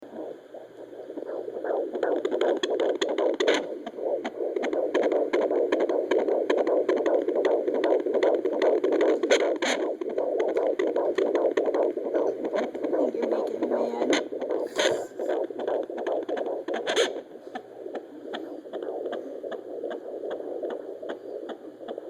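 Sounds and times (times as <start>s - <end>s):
probe scratchy crackles: 0.1s - 22.0s.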